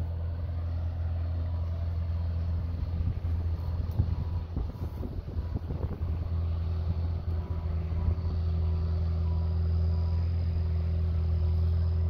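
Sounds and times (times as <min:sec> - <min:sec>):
engine humming with high whine: 0:00.0 - 0:12.0.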